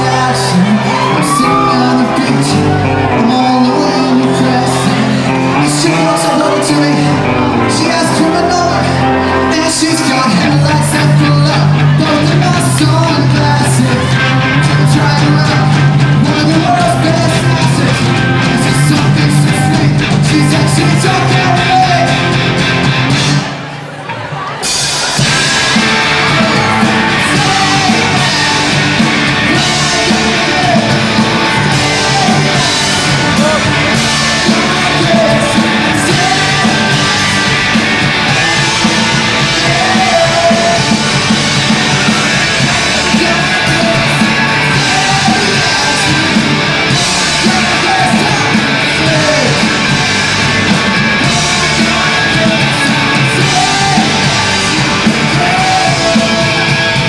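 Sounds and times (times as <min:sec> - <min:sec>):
person singing and shouting: 0:00.0 - 0:22.5, 0:23.4 - 0:57.0
live punk rock band: 0:00.0 - 0:57.0.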